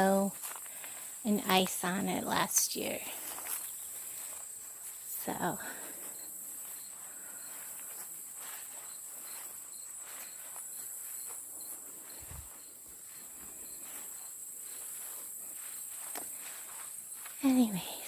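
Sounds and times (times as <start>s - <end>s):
faint footsteps: 0.0s - 18.0s
insects chirping: 0.0s - 18.0s.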